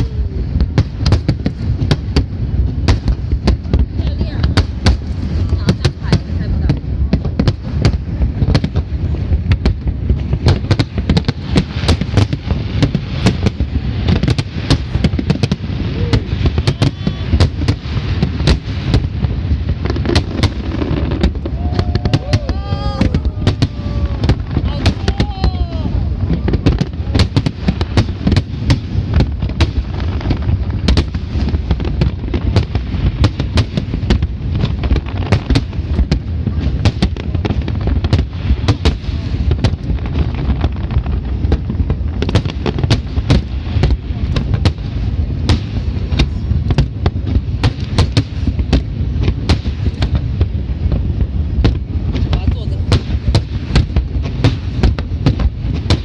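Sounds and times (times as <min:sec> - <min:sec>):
fireworks cracks and bangs: 0:00.0 - 0:56.0.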